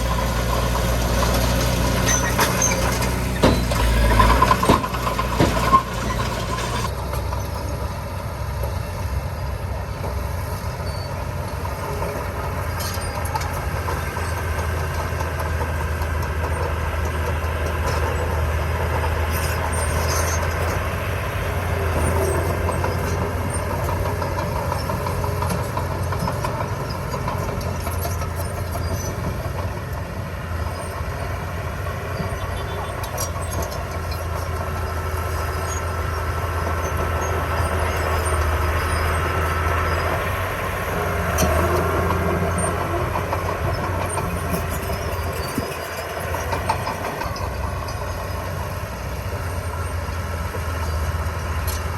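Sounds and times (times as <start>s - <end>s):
heavy diesel machinery droning: 0.0s - 51.9s.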